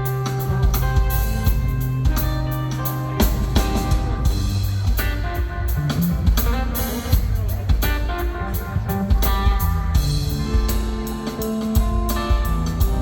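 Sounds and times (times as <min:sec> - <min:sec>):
drum and cymbal hits: 0:00.0 - 0:13.0
electric guitar playing: 0:00.0 - 0:13.0.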